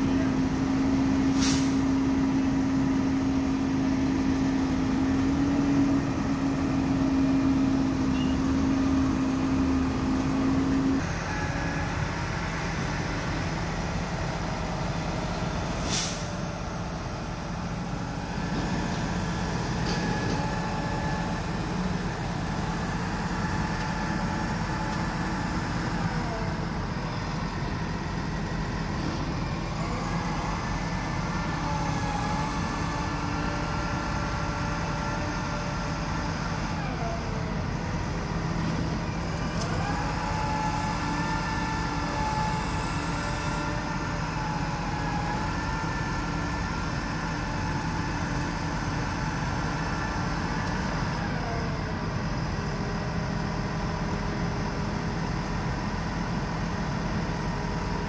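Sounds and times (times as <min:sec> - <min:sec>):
truck engine and hydraulics running: 0:00.0 - 0:58.0.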